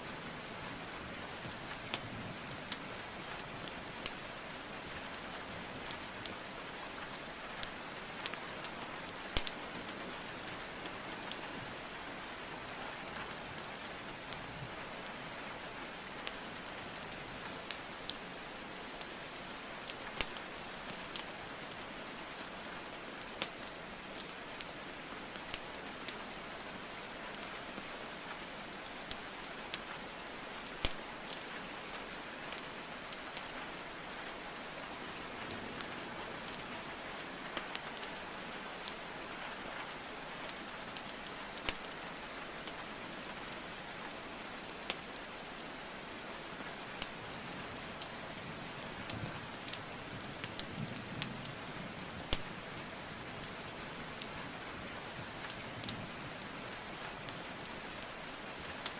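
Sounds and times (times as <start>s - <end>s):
steady rainfall: 0.0s - 58.9s
burning logs crackling and popping: 0.4s - 11.9s, 13.0s - 39.2s, 39.9s - 47.2s, 47.9s - 58.9s.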